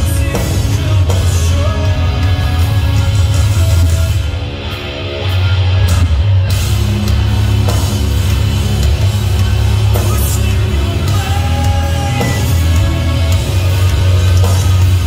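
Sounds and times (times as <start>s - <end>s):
distorted electric guitars: 0.0s - 15.0s
drums: 0.0s - 15.0s
heavy bass: 0.0s - 15.0s.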